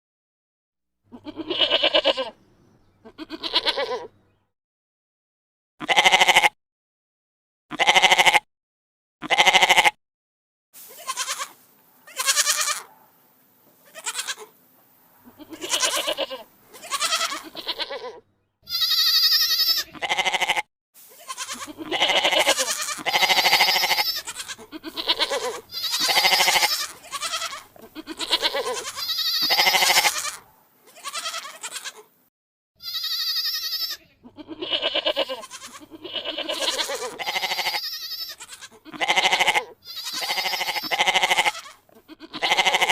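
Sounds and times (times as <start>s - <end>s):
goats bleating: 1.1s - 4.3s, 5.8s - 6.6s, 7.7s - 8.4s, 9.2s - 10.0s, 10.8s - 12.9s, 13.8s - 14.5s, 15.2s - 32.1s, 32.8s - 42.9s.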